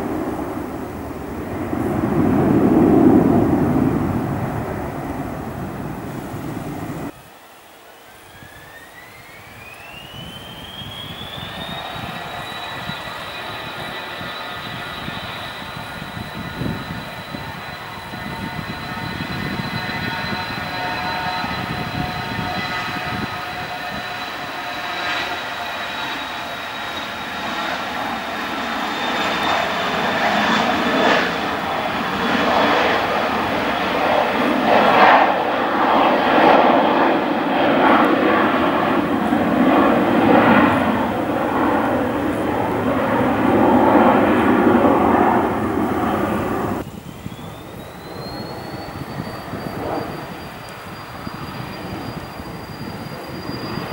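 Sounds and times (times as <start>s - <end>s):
faint jet engine whine: 0.0s - 53.9s
jet engines high whine: 0.0s - 53.9s
rushing jet noise: 0.0s - 53.9s.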